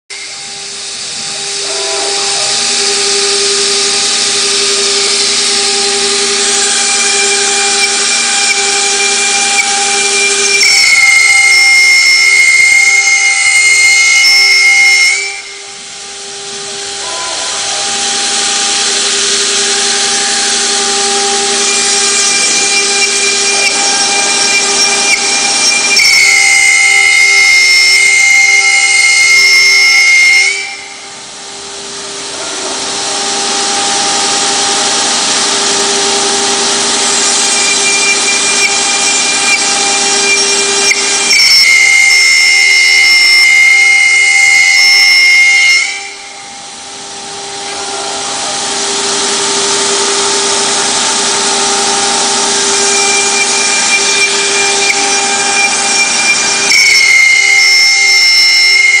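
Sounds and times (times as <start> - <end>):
cnc router spindles whining: 0.1 - 59.0
router cutting hiss in wood: 0.1 - 59.0.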